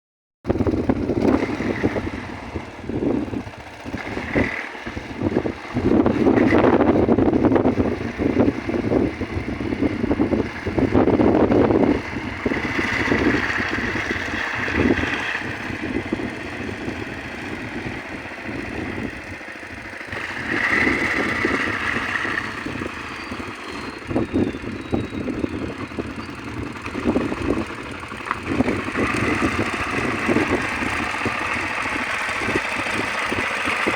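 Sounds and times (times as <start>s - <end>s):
boat engine running: 0.5s - 33.9s.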